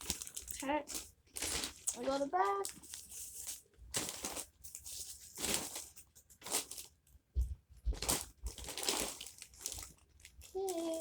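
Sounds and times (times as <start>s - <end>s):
plastic bag crinkling: 0.0s - 7.1s, 7.9s - 11.0s.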